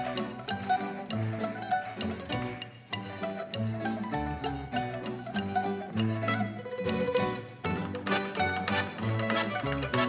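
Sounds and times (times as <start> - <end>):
mandolin and string ensemble music: 0.0 - 10.0.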